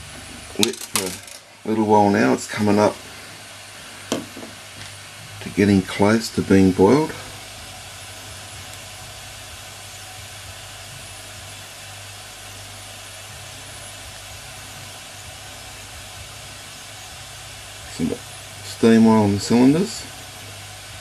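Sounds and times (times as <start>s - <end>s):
boiler hissing: 0.0s - 21.0s.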